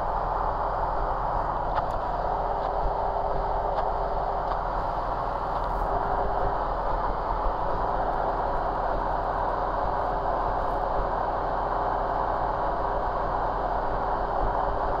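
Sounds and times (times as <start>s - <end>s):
faint steady hum: 0.0s - 15.0s
light aircraft engine drone: 0.0s - 15.0s.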